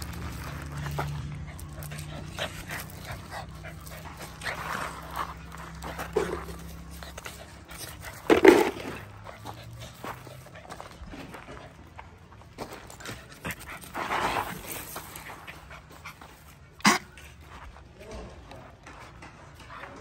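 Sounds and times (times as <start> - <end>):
puppy panting: 0.1 - 17.5.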